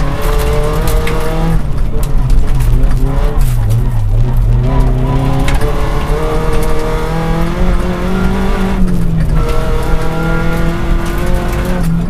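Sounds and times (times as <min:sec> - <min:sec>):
car engine running hard: 0:00.0 - 0:12.0
gravel crackling under tyres: 0:00.0 - 0:12.0.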